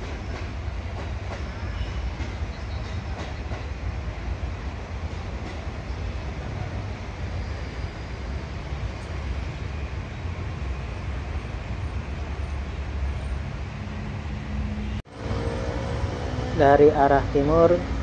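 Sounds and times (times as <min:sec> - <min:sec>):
distant rail and traffic: 0:00.0 - 0:18.0.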